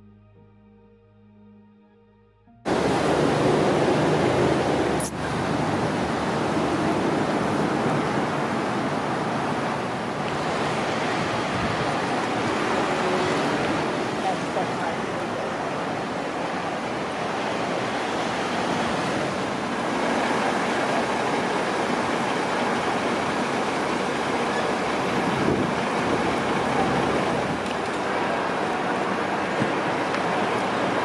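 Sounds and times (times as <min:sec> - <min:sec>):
traffic hiss on busy road: 0:02.7 - 0:31.0.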